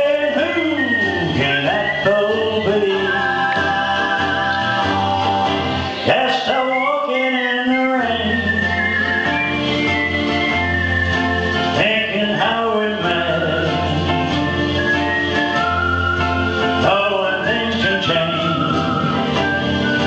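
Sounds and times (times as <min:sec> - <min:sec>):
instrumental backing music: 0:00.0 - 0:20.0
man singing into a microphone: 0:00.0 - 0:20.0.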